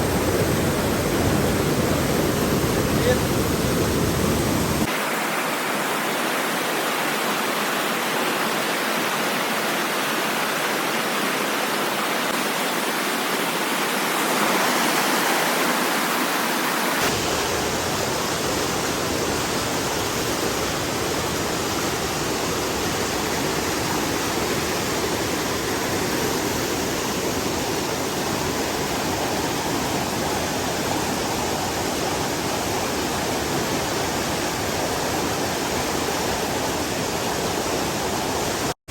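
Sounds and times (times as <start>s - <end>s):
waterfall rushing: 0.0s - 38.8s.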